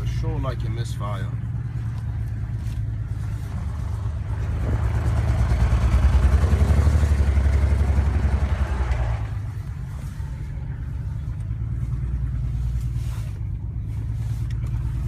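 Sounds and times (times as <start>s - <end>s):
car engine and exhaust rumbling: 0.0s - 15.0s.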